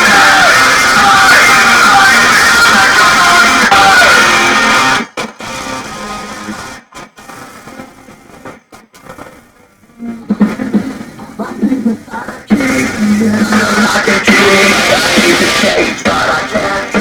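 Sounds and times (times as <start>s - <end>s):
guitar music through speakers: 0.0s - 11.7s, 12.5s - 17.0s.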